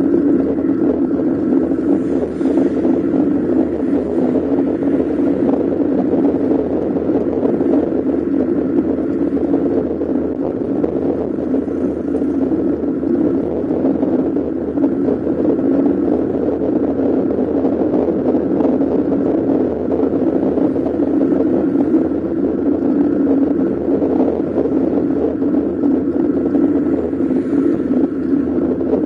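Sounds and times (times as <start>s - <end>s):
bicycle rolling rumble: 0.0s - 29.0s
wind noise: 0.0s - 29.0s.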